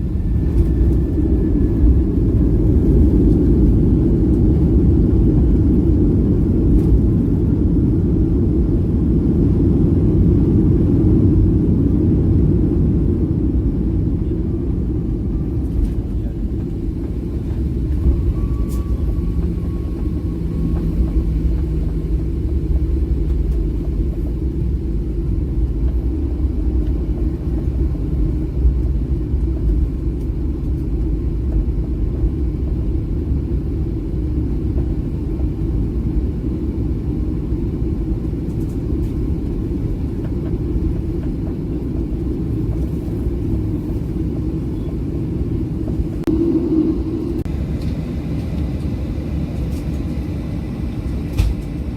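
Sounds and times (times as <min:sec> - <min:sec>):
airplane cabin rumble: 0:00.0 - 0:51.9.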